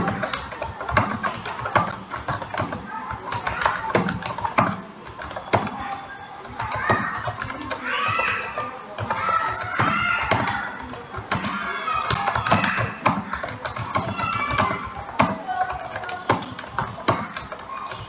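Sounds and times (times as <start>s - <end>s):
computer keyboard taps: 0.0s - 5.9s, 9.0s - 18.0s.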